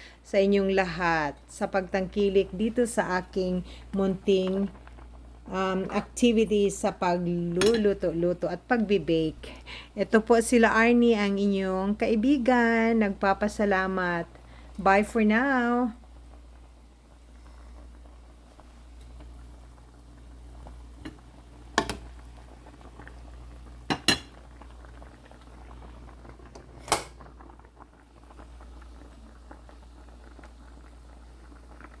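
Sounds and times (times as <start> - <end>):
soup bubbling in a pot: 0.1 - 32.0.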